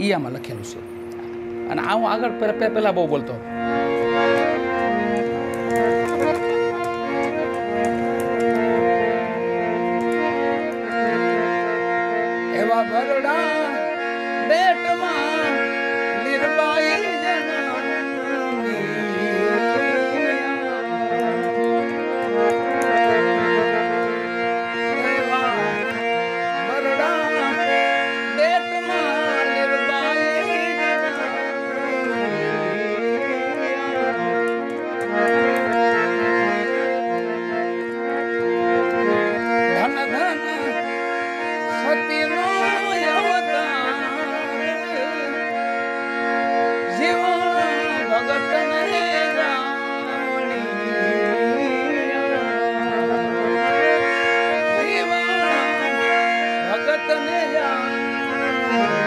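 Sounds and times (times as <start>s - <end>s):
harmonium melody over drone: 0.0s - 59.0s.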